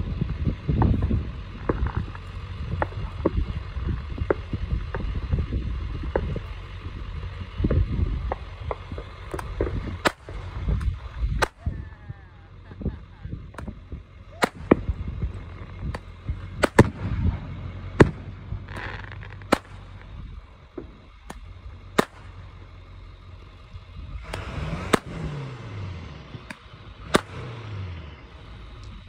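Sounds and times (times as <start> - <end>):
fireworks hissing crackle: 0.0 - 25.5
fireworks bangs: 0.7 - 22.8, 24.2 - 25.6, 26.2 - 27.8.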